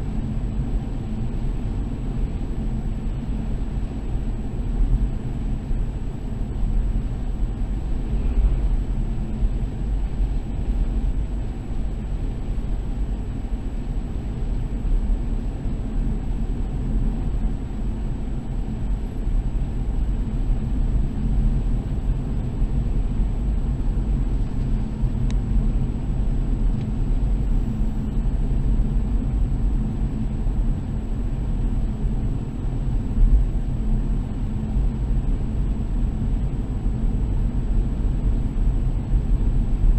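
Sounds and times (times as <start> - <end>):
car engine and tyre rumble: 0.1 - 39.9.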